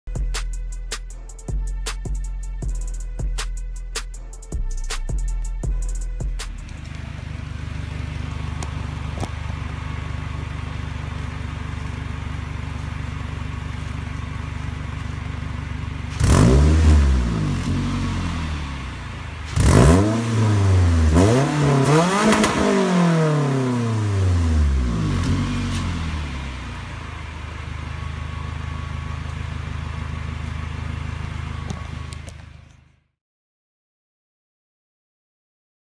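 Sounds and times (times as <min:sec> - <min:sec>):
car engine idling and revving: 0:00.0 - 0:33.2.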